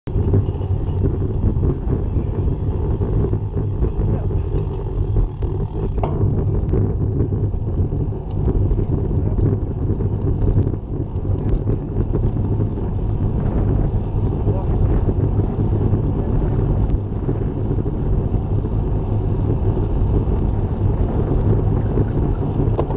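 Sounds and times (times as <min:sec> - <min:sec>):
wind buffeting microphone: 0:00.1 - 0:22.9.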